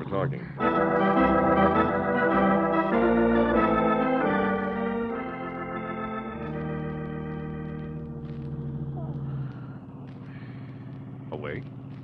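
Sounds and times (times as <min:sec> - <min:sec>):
organ chords: 0:00.6 - 0:10.6.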